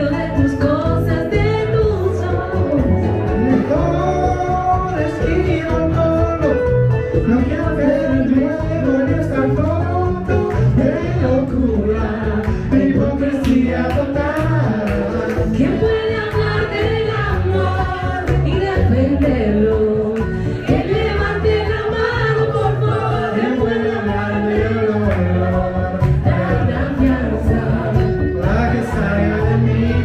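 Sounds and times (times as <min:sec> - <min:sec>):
music with singing: 0:00.0 - 0:30.0
steady bass line: 0:00.0 - 0:30.0.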